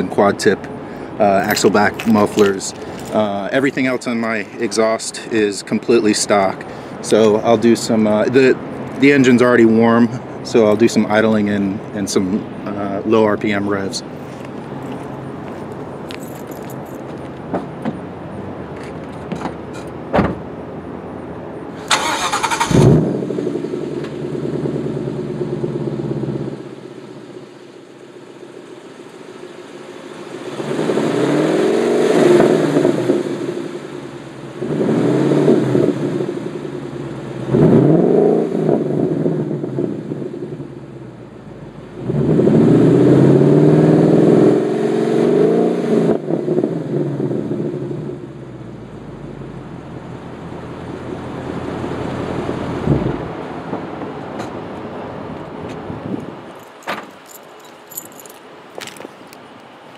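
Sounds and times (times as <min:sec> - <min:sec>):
car engine idling and revving: 0:00.0 - 0:04.7, 0:05.6 - 0:58.4.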